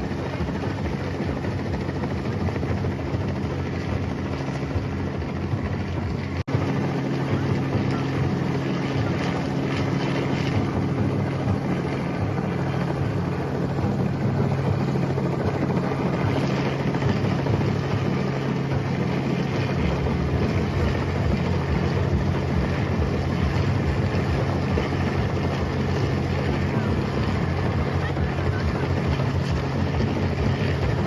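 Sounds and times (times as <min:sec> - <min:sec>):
helicopter rotor chop: 0:00.0 - 0:31.0.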